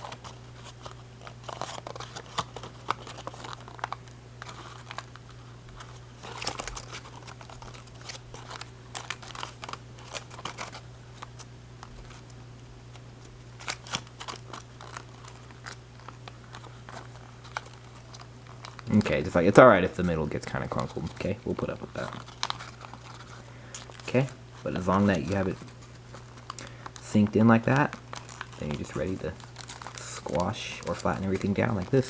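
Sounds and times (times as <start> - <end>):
paper crinkling and crackling: 0.0 - 32.0
steady low hum: 0.0 - 32.0.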